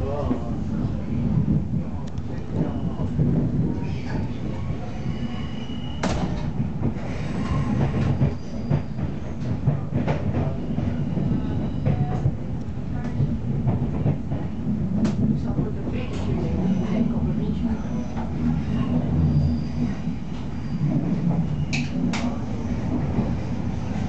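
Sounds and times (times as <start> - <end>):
train rumbling inside carriage: 0.0 - 24.0.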